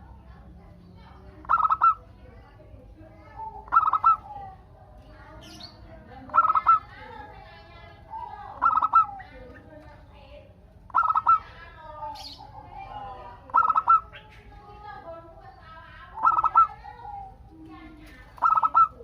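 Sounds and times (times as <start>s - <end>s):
dove cooing: 1.2s - 19.0s.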